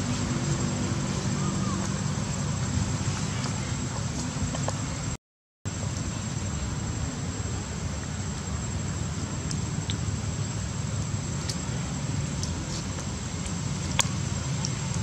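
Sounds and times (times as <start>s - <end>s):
high-pitched whine: 0.0s - 15.0s
low outdoor rumble: 0.0s - 15.0s.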